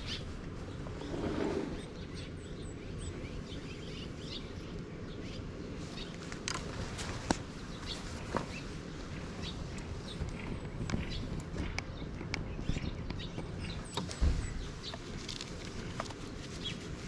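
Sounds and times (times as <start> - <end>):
birds chirping faintly: 0.0 - 17.0
outdoor background noise: 0.0 - 17.0.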